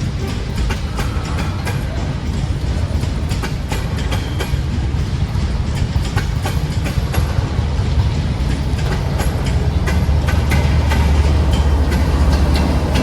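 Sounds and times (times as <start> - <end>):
freight train rumbling: 0.0 - 13.0
wheels clicking over rail joints: 0.0 - 13.0.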